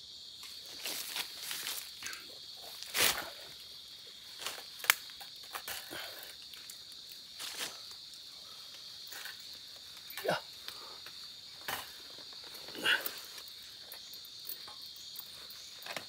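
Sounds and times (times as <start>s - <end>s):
insects droning: 0.0s - 16.0s
rustling of leaves and clothing: 0.0s - 16.0s.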